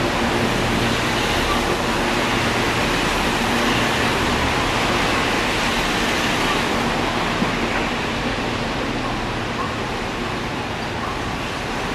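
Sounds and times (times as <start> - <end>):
electric train rushing noise: 0.0 - 11.9.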